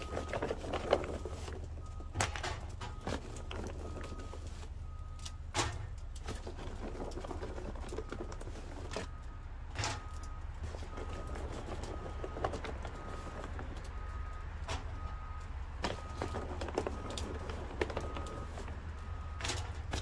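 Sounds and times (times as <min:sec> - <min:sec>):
charcoal chunks clicking and knocking: 0:00.0 - 0:20.0.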